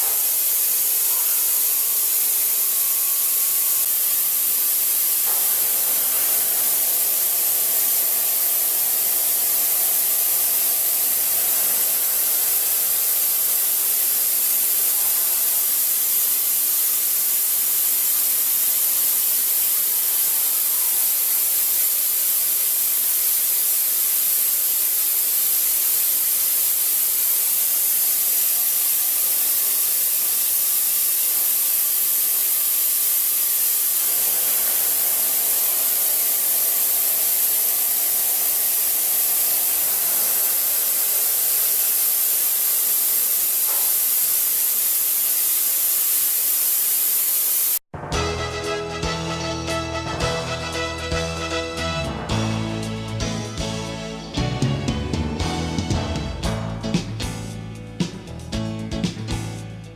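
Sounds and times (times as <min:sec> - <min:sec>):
milling machine hiss: 0:00.0 - 0:56.2.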